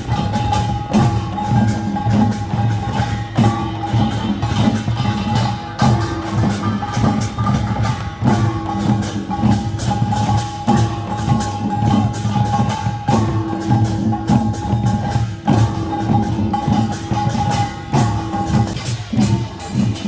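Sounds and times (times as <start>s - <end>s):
folk percussion band playing: 0.0s - 20.0s.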